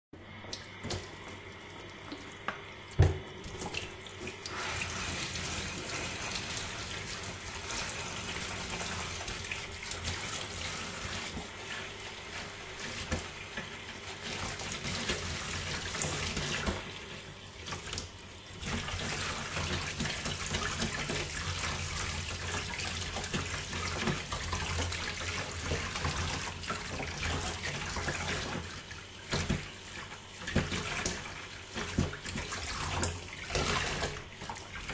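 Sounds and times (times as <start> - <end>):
water running from a tap: 0.5 - 34.9.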